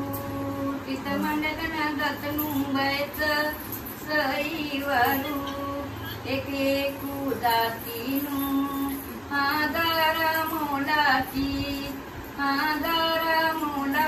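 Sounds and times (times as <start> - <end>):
woman singing long wavering notes: 0.0 - 14.0.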